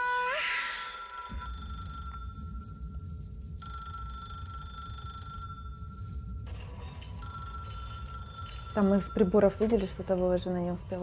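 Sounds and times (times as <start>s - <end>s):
low rumble: 1.3s - 11.0s.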